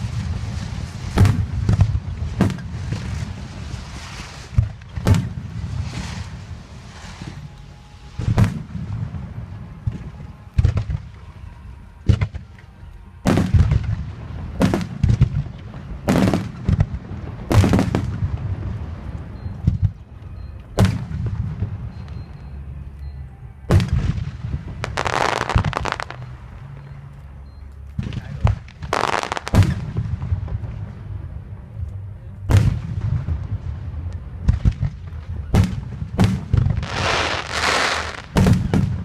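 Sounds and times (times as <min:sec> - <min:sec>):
fireworks bangs: 0:00.0 - 0:11.3, 0:13.2 - 0:20.0, 0:20.8 - 0:21.9, 0:23.7 - 0:26.3, 0:28.0 - 0:31.4, 0:32.4 - 0:39.0
fireworks crackling burst: 0:00.0 - 0:20.0, 0:23.7 - 0:26.8, 0:27.9 - 0:31.5, 0:32.4 - 0:39.0.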